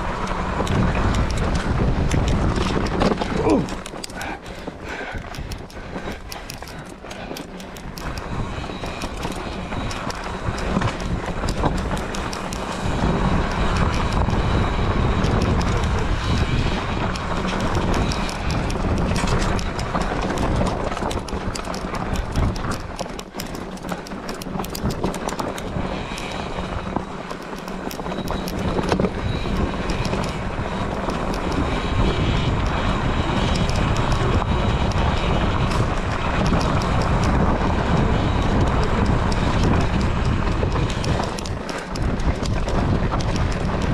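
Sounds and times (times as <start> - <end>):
camera rattling on rough trail: 0.0 - 43.9
small clicks and knocks: 0.0 - 43.9.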